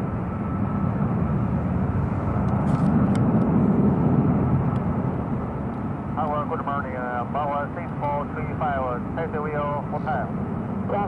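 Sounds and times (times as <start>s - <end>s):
faint steady whine: 0.0s - 11.0s
jet engines rumbling: 0.0s - 11.0s.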